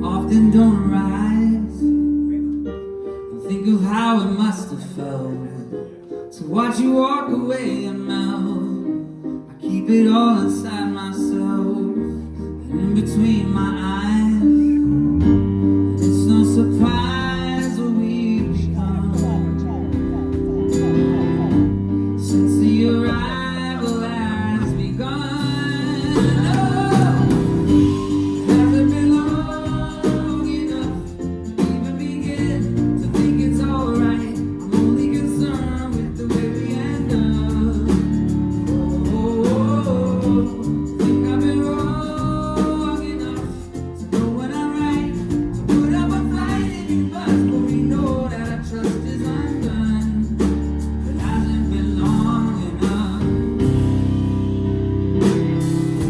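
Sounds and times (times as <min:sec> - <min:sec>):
man singing: 0:00.0 - 0:02.6, 0:03.3 - 0:54.2
live pop-rock band playing: 0:00.0 - 0:56.0.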